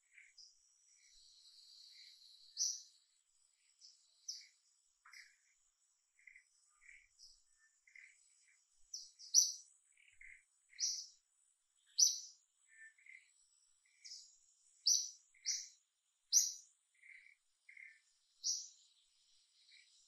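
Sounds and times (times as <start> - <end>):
faint high insect tone: 0.0 - 20.0
forest birds chirping: 0.0 - 20.0.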